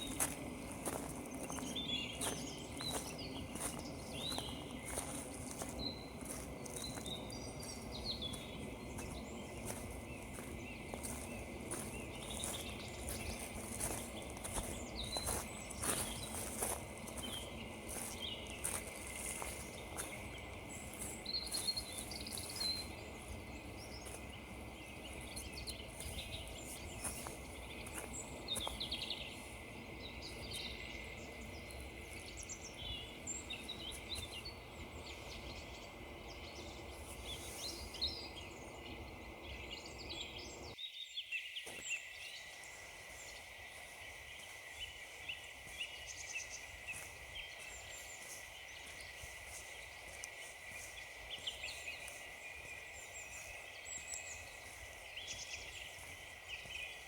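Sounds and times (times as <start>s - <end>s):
footsteps crunching on frozen ground: 0.0s - 40.7s, 41.6s - 57.0s
small songbirds chirping: 0.0s - 57.0s.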